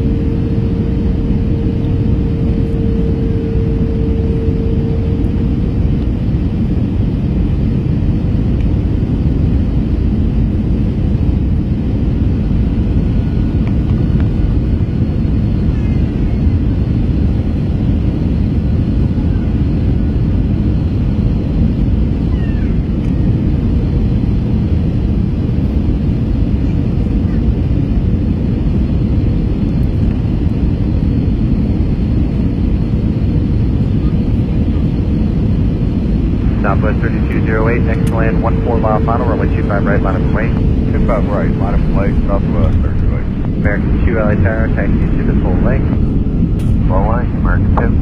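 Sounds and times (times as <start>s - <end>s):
aircraft cabin engine rumble: 0.0s - 48.0s
faint steady hum: 0.0s - 48.0s.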